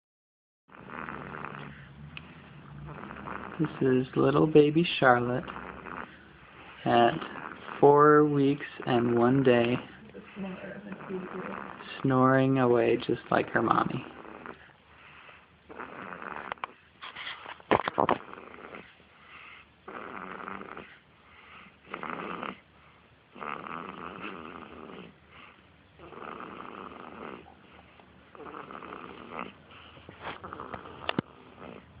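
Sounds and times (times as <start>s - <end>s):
baby snoring: 0.7s - 12.7s, 13.3s - 32.0s.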